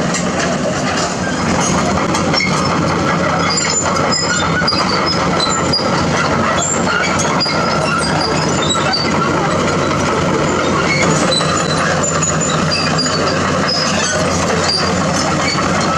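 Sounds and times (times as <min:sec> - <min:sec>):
diesel engine hum: 0:00.0 - 0:15.9
steel grinding on rock: 0:00.3 - 0:15.9.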